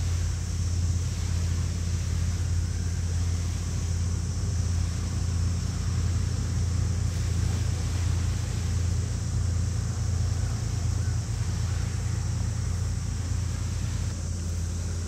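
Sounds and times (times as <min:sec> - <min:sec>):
even hiss: 0:00.0 - 0:15.0
ship engines droning: 0:00.0 - 0:15.0.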